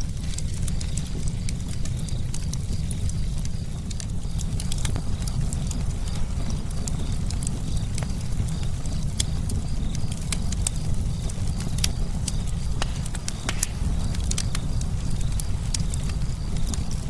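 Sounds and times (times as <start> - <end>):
fire low rumble: 0.0 - 17.0
wood crackling and popping: 0.0 - 17.0.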